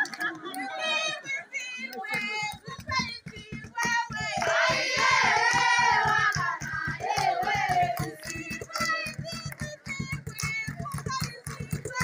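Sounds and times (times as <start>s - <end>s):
fast hand claps: 0.0s - 12.0s
girls singing: 0.0s - 12.0s.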